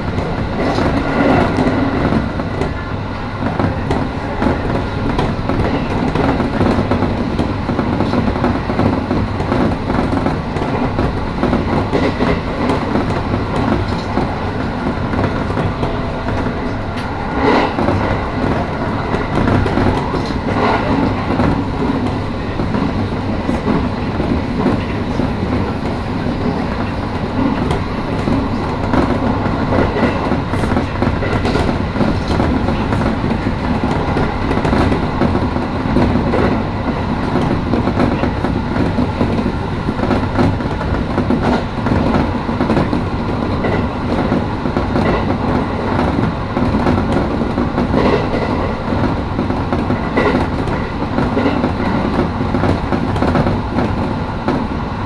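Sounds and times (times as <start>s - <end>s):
clacks over rail joints: 0.0s - 54.7s
train wheels rumbling on rail: 0.0s - 55.0s.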